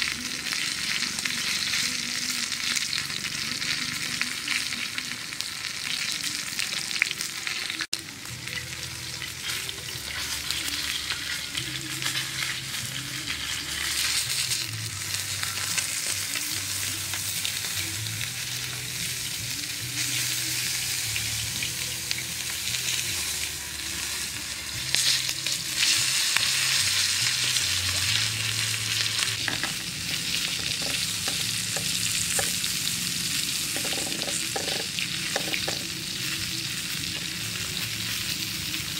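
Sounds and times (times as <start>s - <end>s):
chicken sizzling on metal tray: 0.0s - 38.9s.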